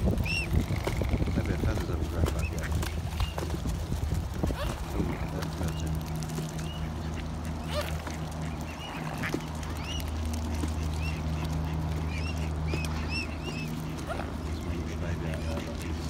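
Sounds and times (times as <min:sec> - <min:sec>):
steady low hum: 0:00.0 - 0:16.0
waterfowl calling: 0:00.0 - 0:16.0.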